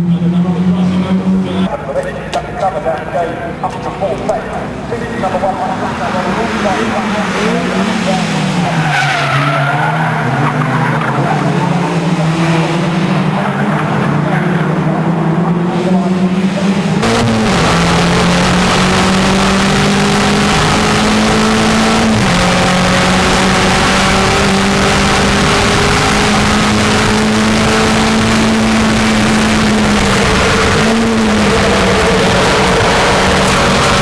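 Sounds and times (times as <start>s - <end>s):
race car engine at high revs: 0.0s - 1.7s, 3.0s - 34.0s.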